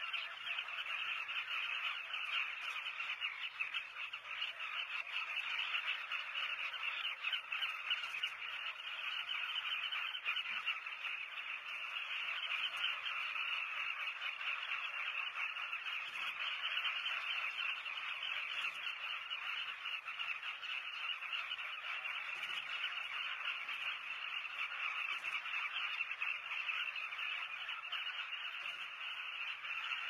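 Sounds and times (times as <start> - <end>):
chorus of croaking bird calls: 0.0 - 30.0.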